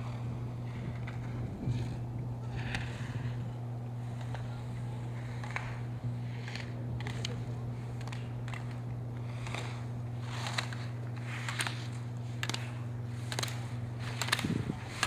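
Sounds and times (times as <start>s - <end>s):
skis scraping across snow: 0.0s - 15.0s
steady low hum: 0.0s - 15.0s.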